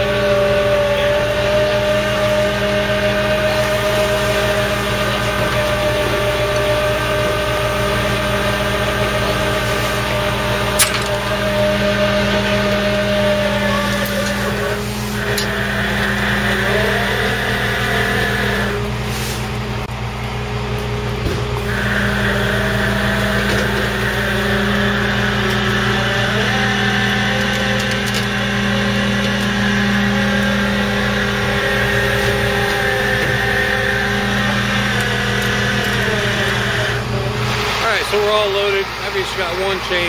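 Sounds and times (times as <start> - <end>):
hydraulic winch whining: 0.0 - 20.4, 21.1 - 40.0
truck engine running: 0.0 - 40.0.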